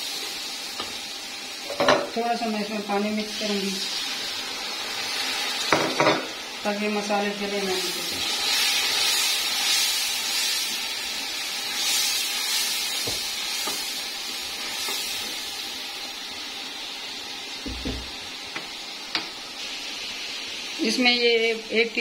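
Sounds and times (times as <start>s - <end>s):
masala sizzling in hot oil: 0.0s - 22.0s.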